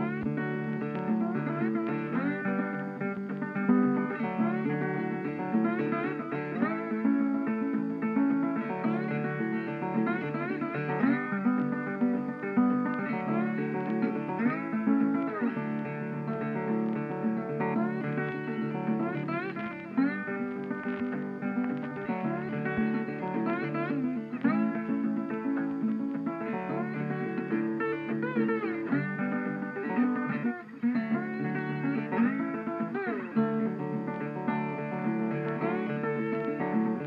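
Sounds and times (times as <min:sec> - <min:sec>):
plucked guitar music: 0:00.0 - 0:37.0.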